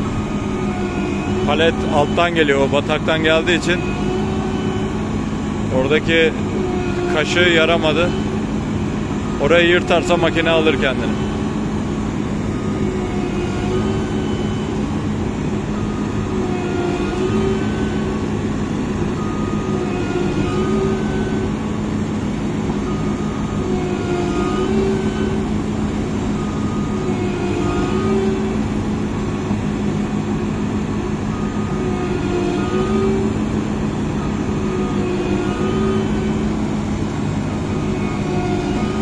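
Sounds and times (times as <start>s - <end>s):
combine harvester engine running: 0.0s - 39.0s.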